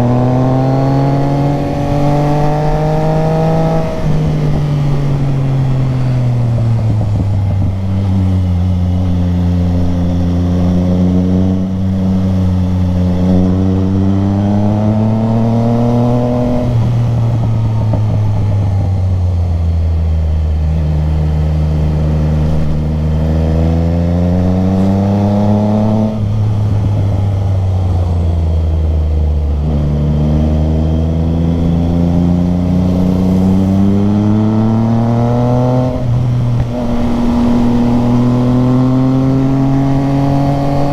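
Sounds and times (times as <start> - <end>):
motorcycle engine accelerating: 0.0 - 40.9
wind and road noise: 0.0 - 40.9.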